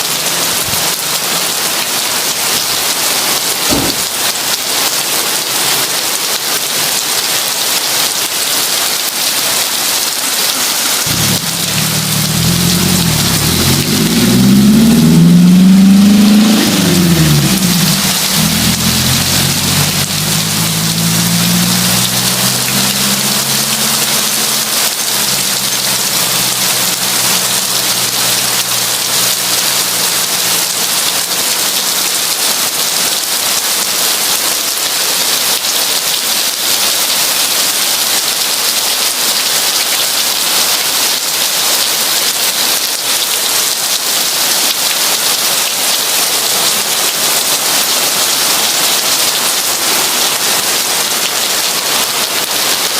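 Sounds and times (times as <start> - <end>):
heavy rain hissing: 0.0 - 52.9.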